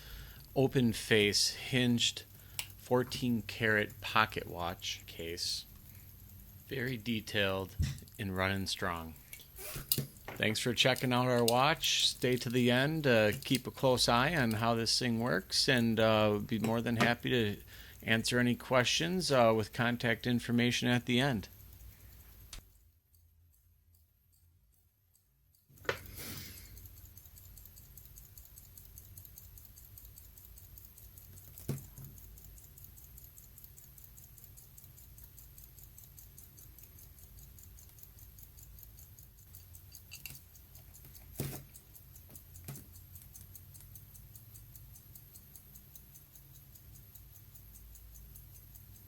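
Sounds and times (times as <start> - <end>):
pocket watch ticking: 0.0 - 49.0
sharp clicks: 0.4 - 22.7, 25.5 - 49.0.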